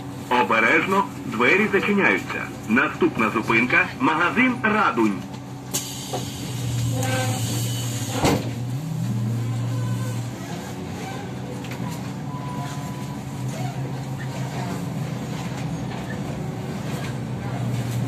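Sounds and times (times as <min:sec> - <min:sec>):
bus rumbling: 0:00.0 - 0:18.0
trolleybus electric hum: 0:00.0 - 0:18.0.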